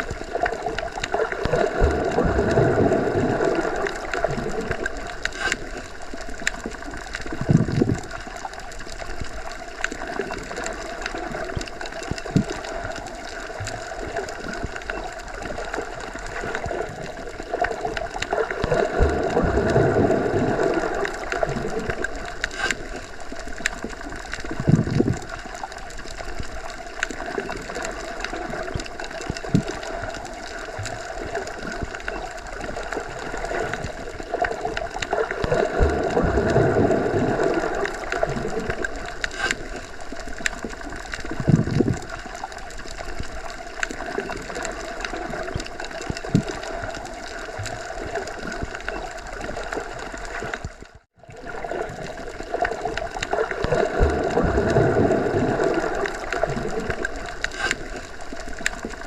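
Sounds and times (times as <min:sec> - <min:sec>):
muffled underwater rumble: 0:00.0 - 0:59.0
small underwater clicks: 0:00.0 - 0:59.0.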